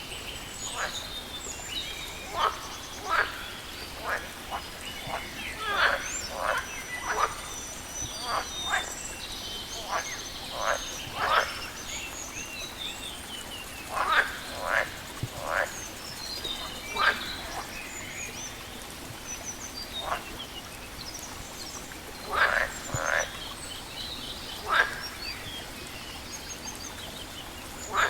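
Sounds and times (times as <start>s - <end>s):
frogs croaking: 0.1s - 28.0s.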